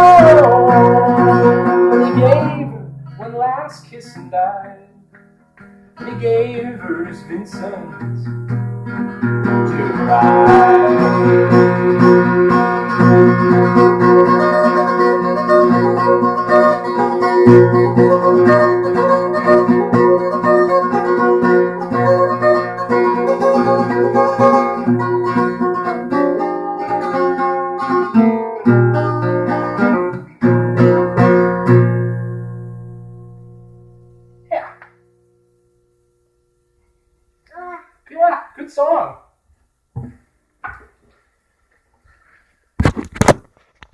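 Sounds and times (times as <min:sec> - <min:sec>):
acoustic guitar picking: 0:00.0 - 0:35.9.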